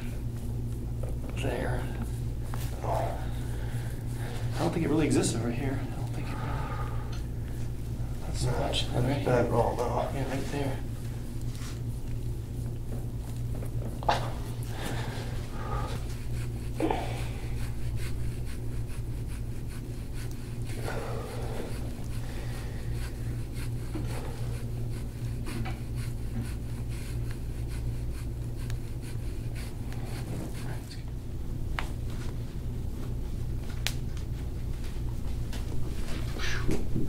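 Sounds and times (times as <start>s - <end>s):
steady low hum: 0.0s - 37.0s
scraping tool rubbing on skin: 0.4s - 30.9s.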